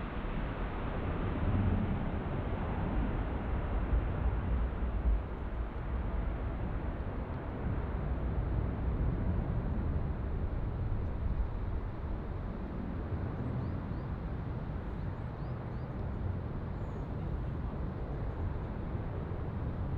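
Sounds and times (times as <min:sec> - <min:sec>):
jet engines at takeoff power: 0:00.0 - 0:19.9.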